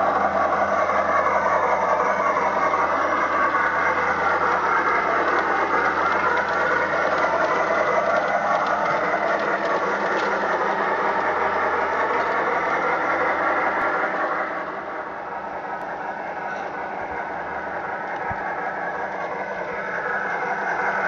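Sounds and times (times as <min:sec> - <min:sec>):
steam locomotive sound effect: 0:00.0 - 0:21.0.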